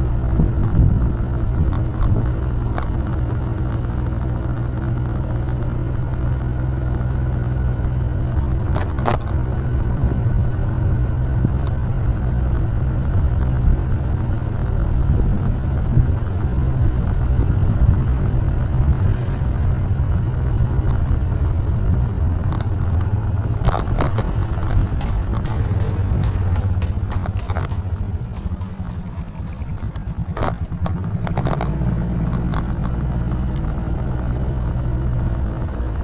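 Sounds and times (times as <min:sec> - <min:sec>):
vehicle engine and road noise: 0:00.0 - 0:36.0.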